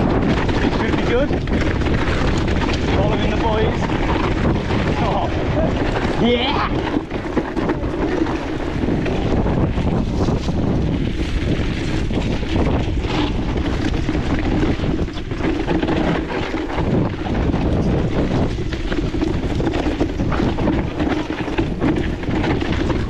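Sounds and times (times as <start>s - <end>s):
bike knocks and rattles: 0.0s - 23.0s
tyres rolling over rocky ground: 0.0s - 23.0s
wind buffeting microphone: 0.0s - 23.0s.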